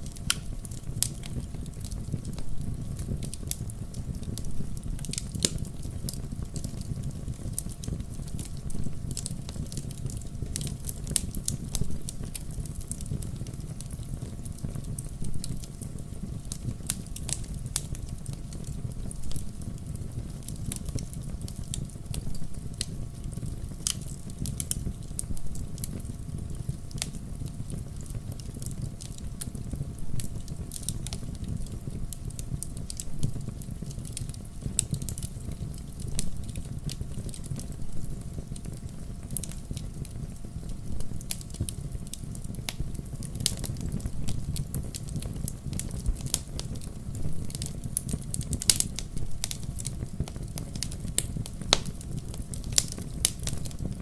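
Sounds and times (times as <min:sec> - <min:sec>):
campfire crackling: 0:00.0 - 0:54.0
low rumble of flames: 0:00.0 - 0:54.0.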